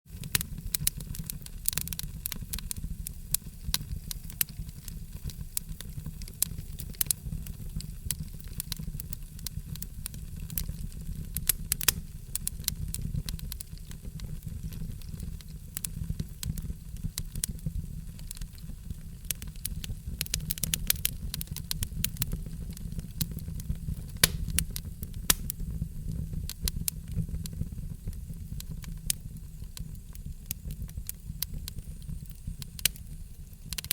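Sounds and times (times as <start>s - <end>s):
fire crackling and popping: 0.1s - 33.9s
low rumble of flames: 0.1s - 33.9s.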